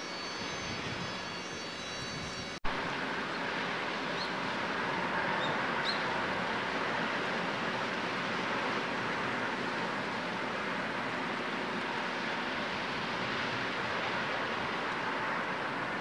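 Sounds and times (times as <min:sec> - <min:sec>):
jetfoil turbine engines rushing: 0:00.0 - 0:16.0.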